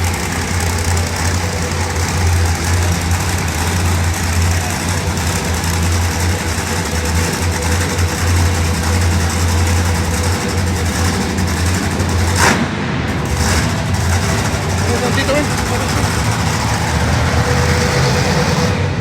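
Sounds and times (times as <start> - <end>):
heavy engine idling: 0.0 - 19.0.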